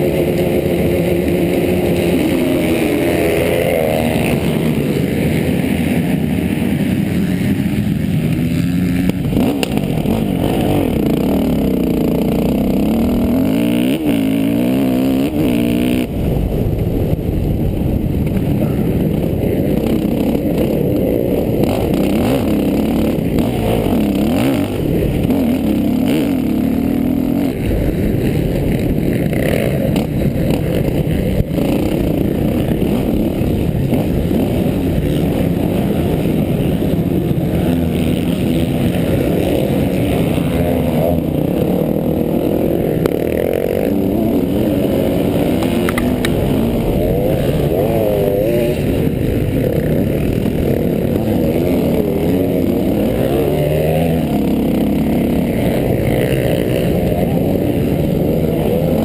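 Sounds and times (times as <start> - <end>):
dirt bike engine revving: 0.0 - 59.0
other dirt bikes nearby: 0.0 - 59.0.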